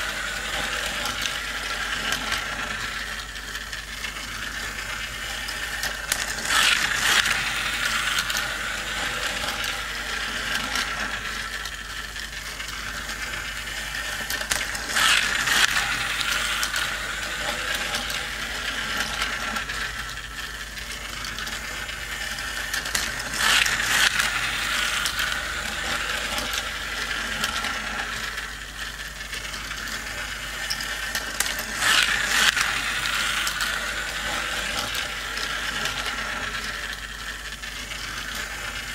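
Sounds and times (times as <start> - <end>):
toy racing track whirring: 0.0 - 38.9.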